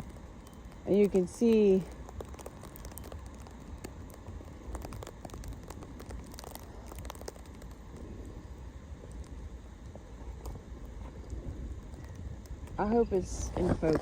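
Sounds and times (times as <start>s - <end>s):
precipitation ticking: 0.0s - 14.0s
wind rumbling on microphone: 0.0s - 14.0s.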